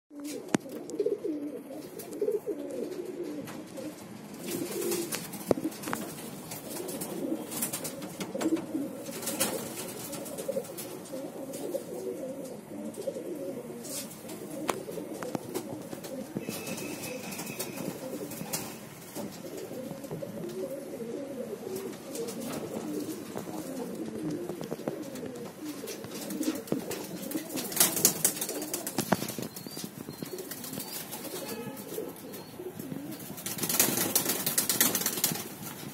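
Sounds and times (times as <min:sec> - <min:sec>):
pigeons cooing: 0:00.1 - 0:35.9.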